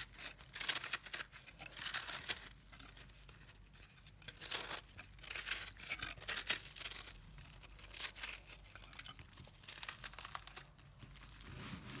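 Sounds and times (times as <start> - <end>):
dry soap crunching and crackling: 0.0 - 12.0.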